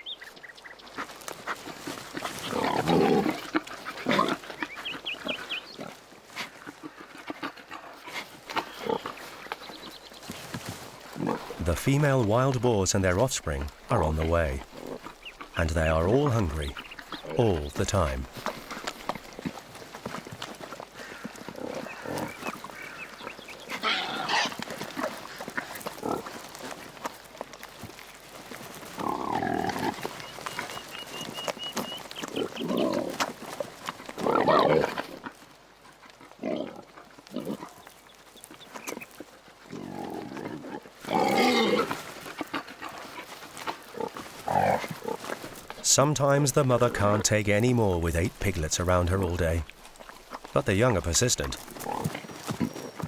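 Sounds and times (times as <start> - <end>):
wild boars grunting and squealing: 0.7 - 47.2, 49.0 - 53.0.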